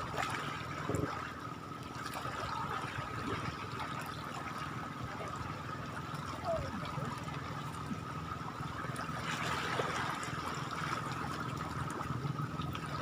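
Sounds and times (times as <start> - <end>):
water lapping at shoreline: 0.0 - 13.0.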